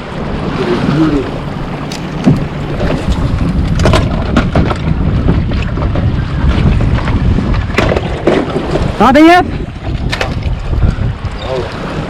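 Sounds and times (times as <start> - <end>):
water washing against boat hull: 0.0 - 12.0
wind rumbling on microphone: 0.0 - 12.0.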